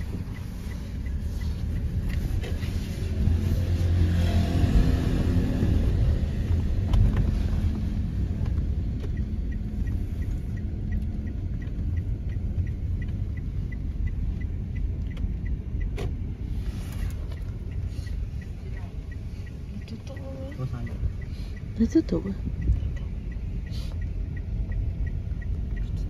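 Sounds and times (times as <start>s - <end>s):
faint regular ticking: 0.0s - 3.9s, 5.8s - 26.0s
car engine and road noise: 0.0s - 26.0s.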